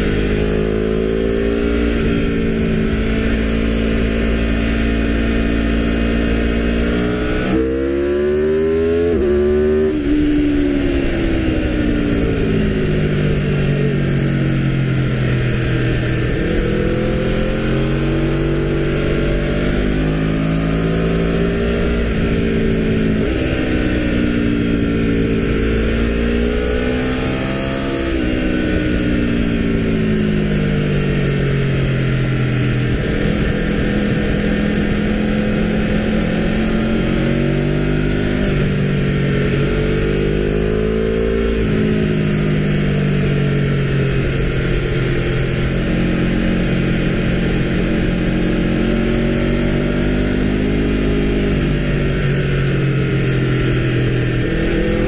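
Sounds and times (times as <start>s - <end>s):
wind rushing over microphone: 0.0s - 5.7s, 8.6s - 50.1s
motorcycle engine revving: 0.0s - 55.0s.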